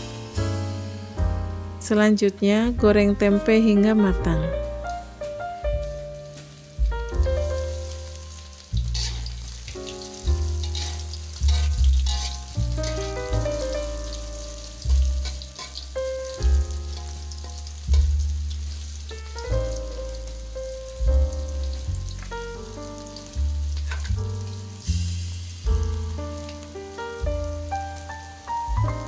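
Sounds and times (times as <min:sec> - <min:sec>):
background music: 0:00.0 - 0:29.0
bass notes: 0:00.0 - 0:29.0
food sizzling in oil: 0:03.9 - 0:29.0.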